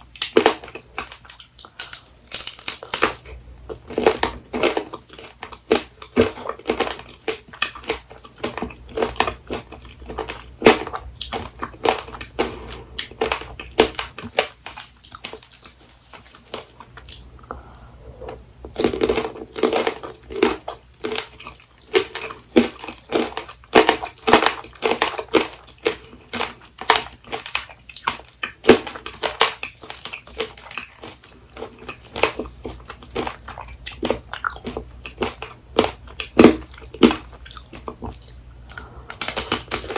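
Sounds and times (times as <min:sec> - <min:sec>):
crunchy candy chewing: 0:00.1 - 0:39.9.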